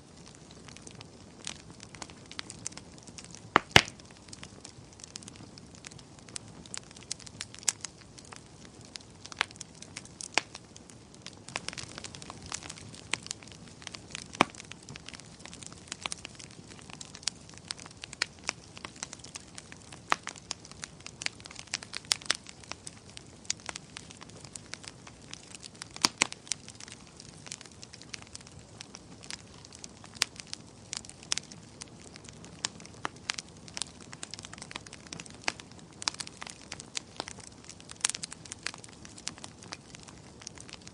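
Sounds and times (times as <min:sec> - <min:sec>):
bonfire hissing: 0:00.0 - 0:40.9
burning wood crackling and popping: 0:00.0 - 0:40.9.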